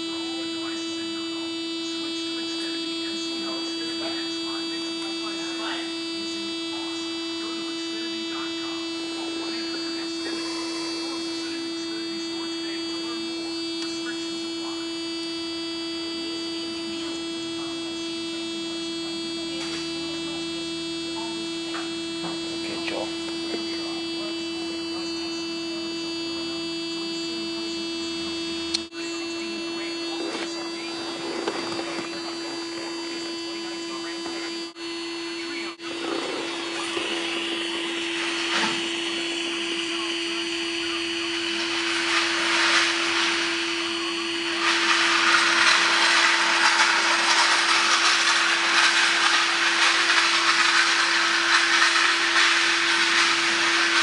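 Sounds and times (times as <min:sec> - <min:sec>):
electrical hum with whiny overtones: 0:00.0 - 0:54.0.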